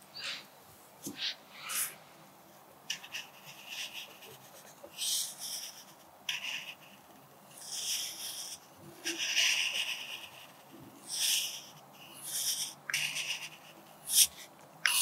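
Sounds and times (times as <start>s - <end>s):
pencil scratching on paper: 2.9s - 15.0s.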